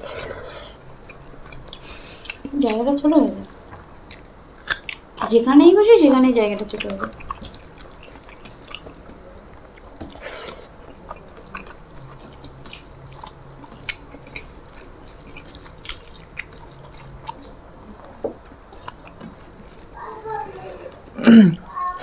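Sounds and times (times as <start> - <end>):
chewing: 0.0 - 5.4, 6.3 - 22.0.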